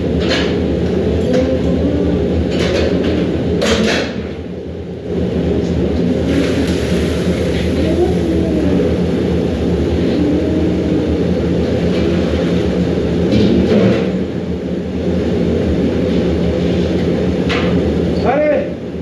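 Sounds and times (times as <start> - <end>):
kitchen range rumble and hum: 0.0 - 19.0
pot at a rolling boil: 0.0 - 19.0.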